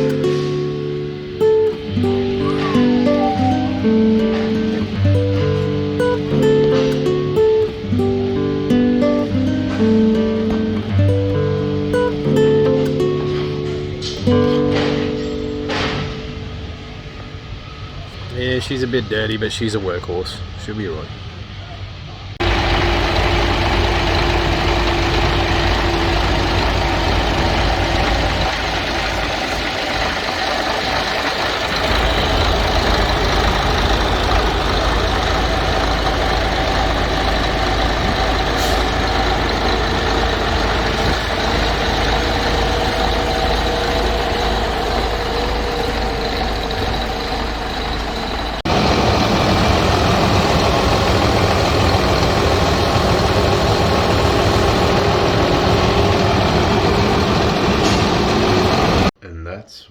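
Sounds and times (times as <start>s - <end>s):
diesel truck engine running: 0.0s - 20.6s, 22.3s - 59.2s.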